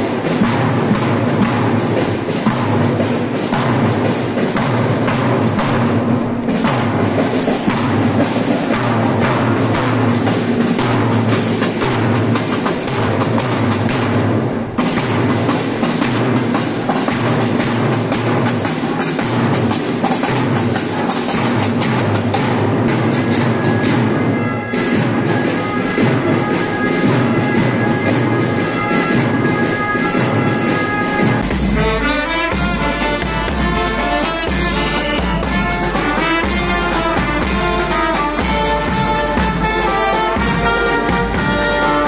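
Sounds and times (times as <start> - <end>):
field drums beating: 0.0 - 42.0
brass and saxophones playing tune: 6.0 - 42.0.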